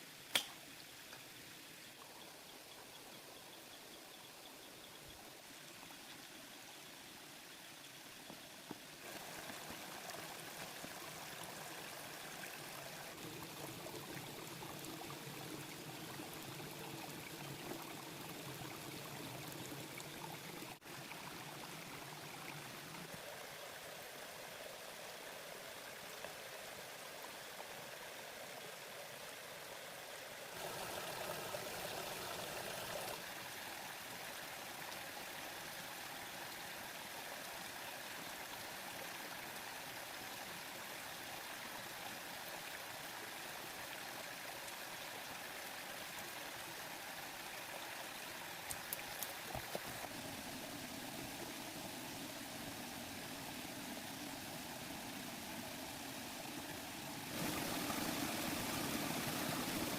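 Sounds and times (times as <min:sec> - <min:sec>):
running water rushing: 0:08.3 - 0:59.9.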